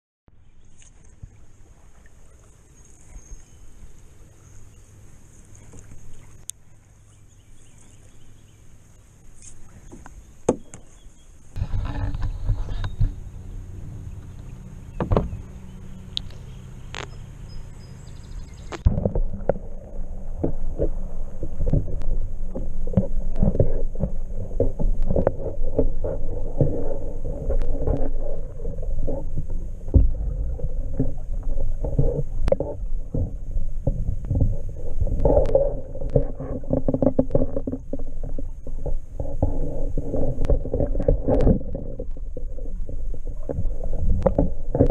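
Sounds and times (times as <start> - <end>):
muffled underwater rushing: 0.6 - 44.9
water splashing: 0.6 - 44.9.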